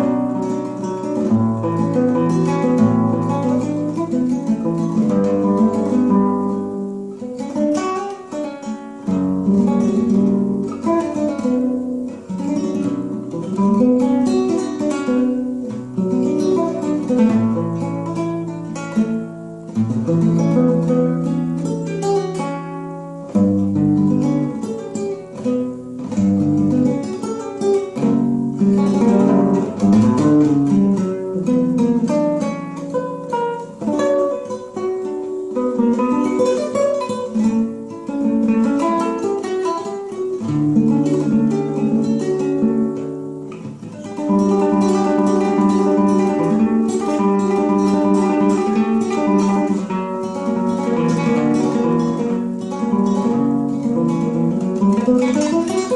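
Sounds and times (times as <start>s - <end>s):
solo classical guitar: 0.0s - 55.9s.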